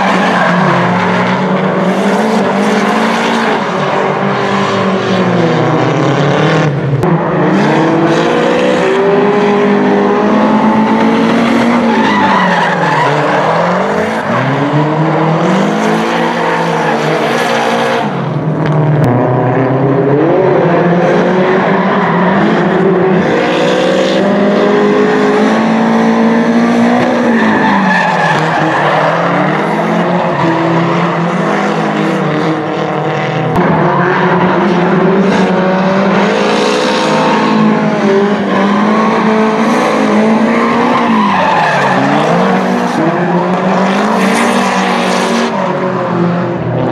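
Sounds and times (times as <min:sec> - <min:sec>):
tyres squealing and skidding: 0:00.0 - 0:05.0, 0:08.3 - 0:18.2, 0:21.2 - 0:32.7, 0:33.6 - 0:45.7
car engines revving: 0:00.0 - 0:46.9.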